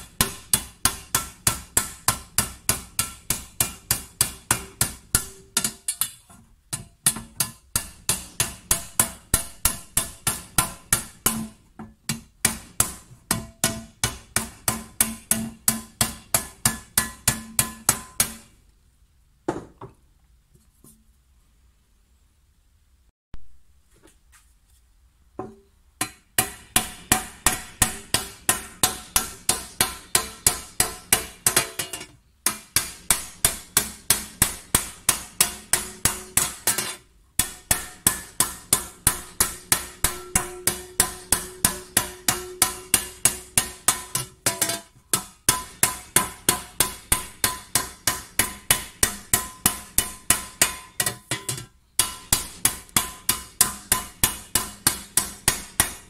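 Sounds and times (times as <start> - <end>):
hammer striking copper tray: 0.0 - 18.5, 25.4 - 56.0.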